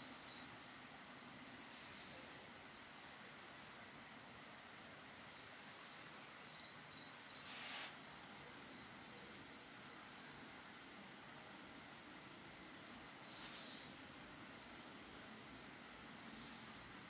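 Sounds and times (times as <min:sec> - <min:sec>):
cricket chirping: 0:00.0 - 0:17.0
faint hiss: 0:00.0 - 0:17.0.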